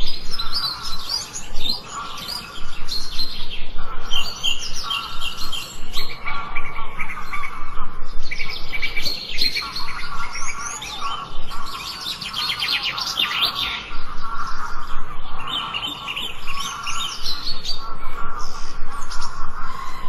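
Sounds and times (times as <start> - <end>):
songbirds chirping and singing: 0.0 - 20.0.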